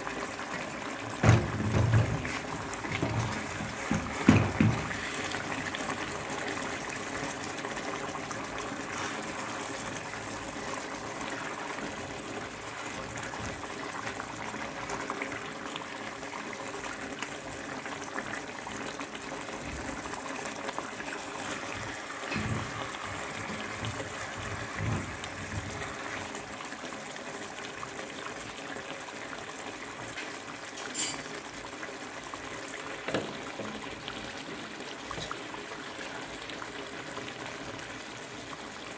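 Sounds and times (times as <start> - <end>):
curry simmering and bubbling: 0.0 - 38.9.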